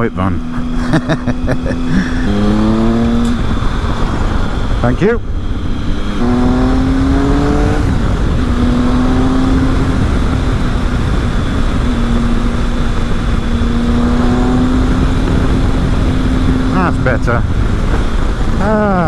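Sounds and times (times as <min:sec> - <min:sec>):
motorcycle engine cruising: 0:00.0 - 0:19.0
wind rush on microphone: 0:00.4 - 0:19.0.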